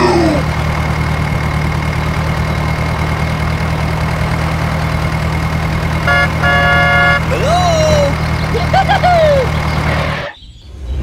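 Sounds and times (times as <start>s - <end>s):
tractor engine idling: 0.0s - 10.4s.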